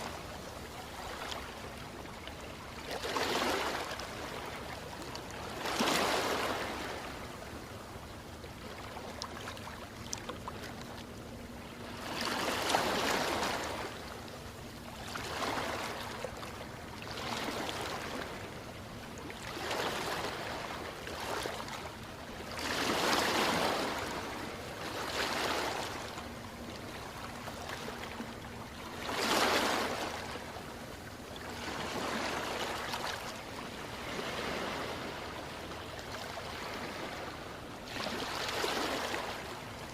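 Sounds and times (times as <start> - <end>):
ocean waves washing ashore: 0.0 - 39.9.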